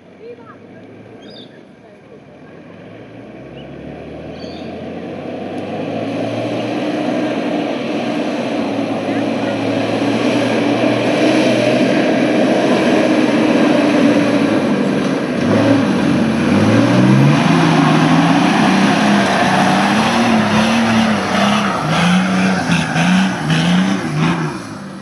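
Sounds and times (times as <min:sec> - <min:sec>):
engine revving under load: 0:02.4 - 0:25.0.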